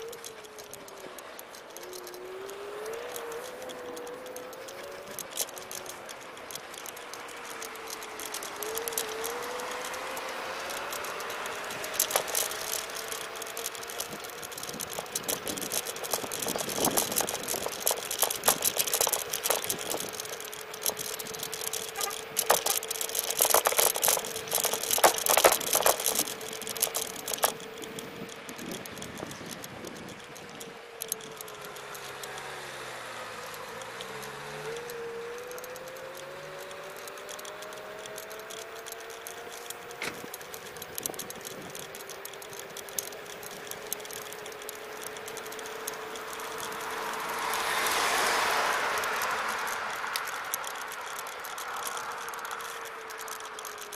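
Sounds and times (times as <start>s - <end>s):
electric scooter motor whine: 0.0s - 53.9s
scooter rattling over bumps: 0.0s - 53.9s.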